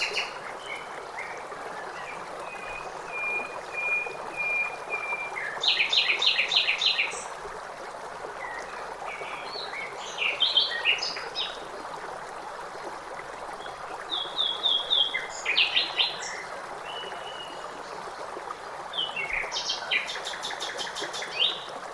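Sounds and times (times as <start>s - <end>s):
flowing water rushing: 0.0s - 21.9s.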